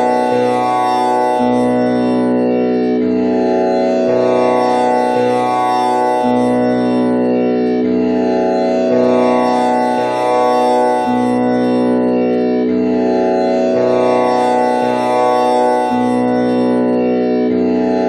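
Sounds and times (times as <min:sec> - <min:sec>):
tanpura strings plucked over drone: 0:00.0 - 0:18.0.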